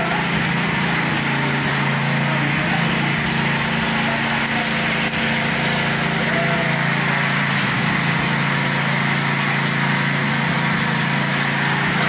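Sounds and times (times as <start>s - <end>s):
concrete mixer engine running: 0.0s - 12.0s.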